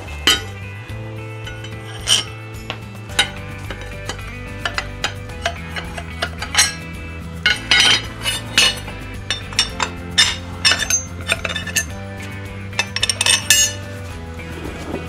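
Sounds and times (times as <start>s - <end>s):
background music with bass line: 0.0s - 15.0s
metal clinks and taps: 0.1s - 0.7s, 1.4s - 14.1s.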